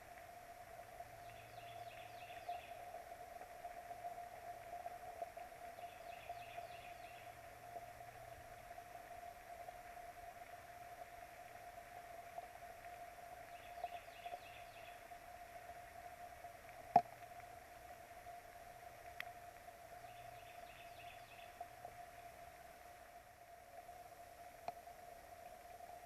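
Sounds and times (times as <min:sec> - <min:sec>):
faint hum: 0:00.0 - 0:26.0
rain hiss: 0:00.0 - 0:26.0.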